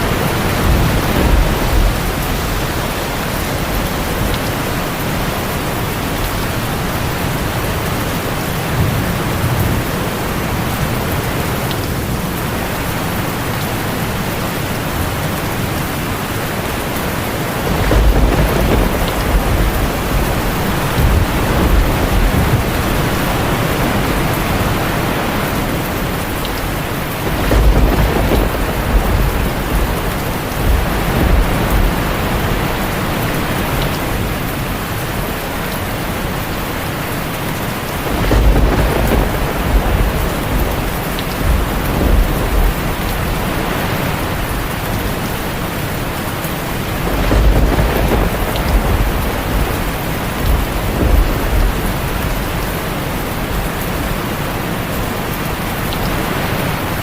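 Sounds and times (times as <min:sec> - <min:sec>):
thunder rumbling: 0:00.0 - 0:54.4
heavy rain on a tin roof: 0:00.0 - 0:57.0.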